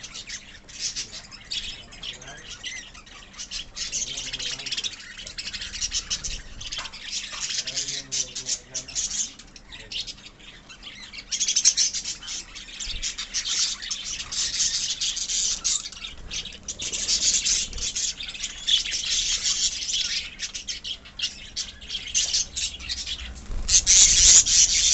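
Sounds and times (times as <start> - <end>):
lovebirds chattering and chirping: 0.0 - 24.9.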